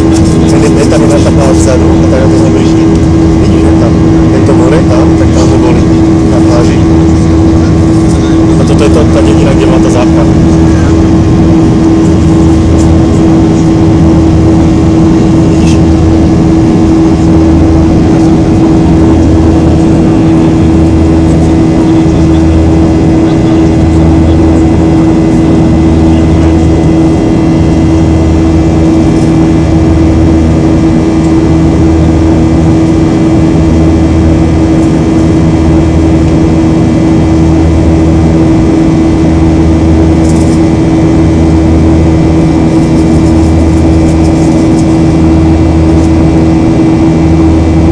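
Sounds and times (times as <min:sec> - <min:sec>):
jet engines heard from cabin: 0:00.0 - 0:47.9.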